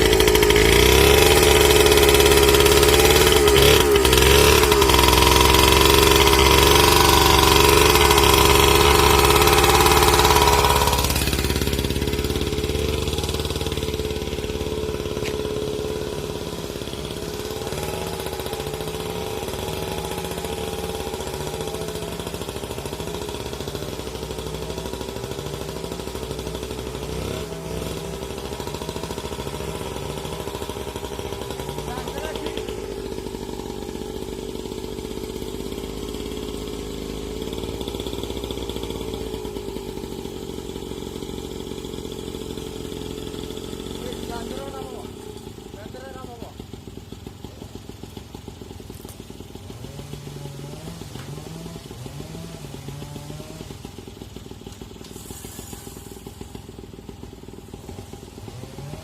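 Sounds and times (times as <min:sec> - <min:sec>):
two-stroke engine running: 0:00.0 - 0:59.0.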